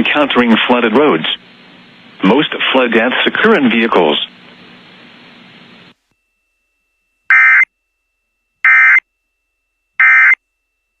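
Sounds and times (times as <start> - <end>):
faint static: 0.0 - 11.0.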